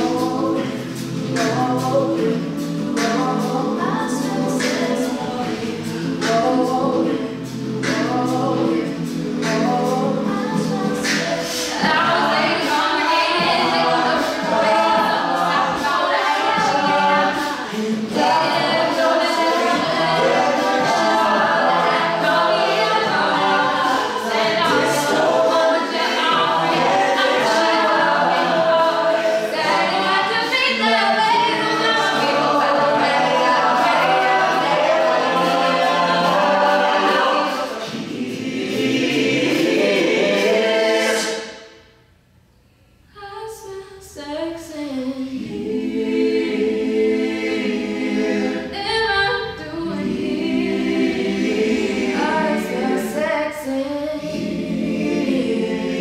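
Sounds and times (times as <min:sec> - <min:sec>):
group singing in close harmony: 0:00.0 - 0:41.9, 0:45.2 - 0:56.0
vocal percussion: 0:00.0 - 0:56.0.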